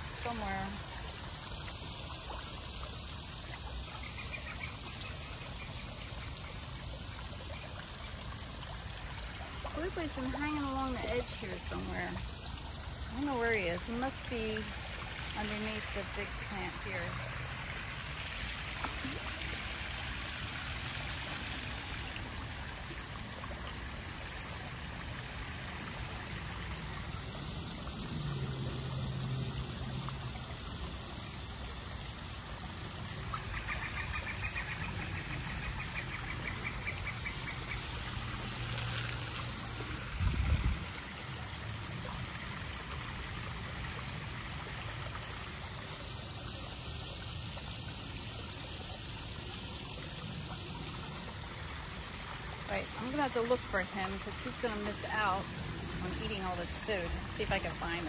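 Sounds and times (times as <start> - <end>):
waterfall splashing over rocks: 0.0 - 58.0.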